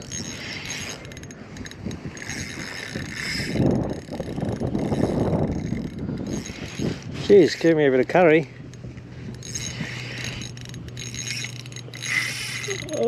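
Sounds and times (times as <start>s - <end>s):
fishing reel being cranked: 0.0s - 13.0s.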